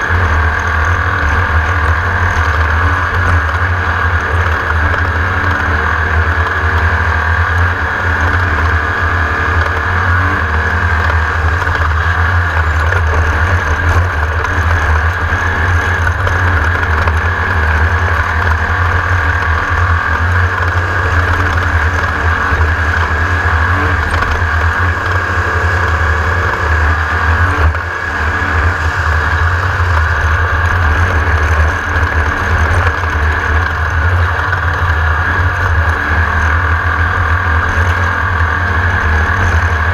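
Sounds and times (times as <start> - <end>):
buggy engine droning loudly: 0.0 - 39.9.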